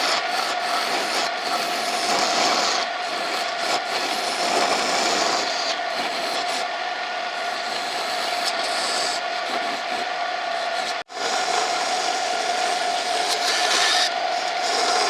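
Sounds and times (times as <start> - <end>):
lathe motor hum: 0.0 - 15.0.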